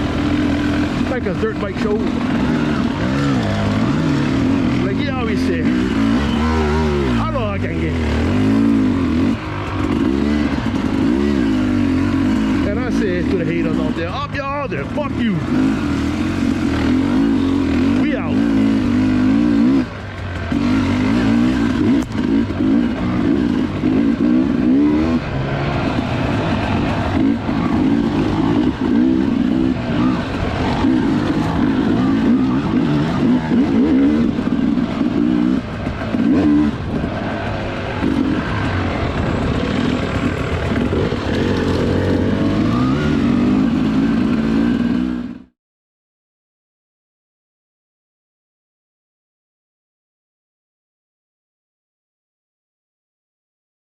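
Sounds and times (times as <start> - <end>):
dirt bike engine revving: 0.0 - 45.5.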